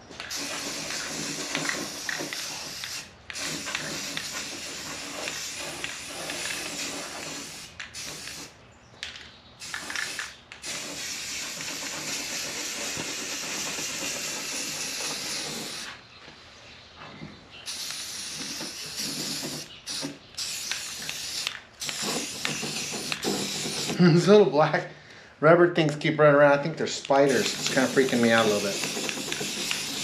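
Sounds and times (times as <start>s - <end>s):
spray paint hissing: 0.0s - 8.6s, 9.6s - 16.0s, 17.6s - 24.0s, 27.0s - 30.0s.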